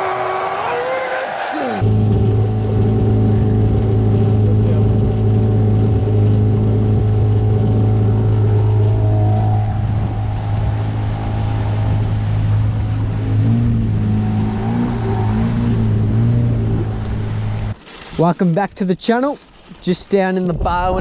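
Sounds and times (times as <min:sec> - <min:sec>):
outboard motor humming: 0:01.8 - 0:18.6.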